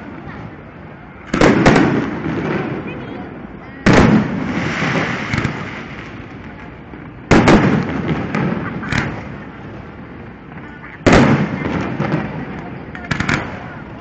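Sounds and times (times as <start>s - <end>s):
fireworks bangs: 0.0s - 14.0s
small fireworks pops: 1.2s - 3.0s, 3.8s - 14.0s.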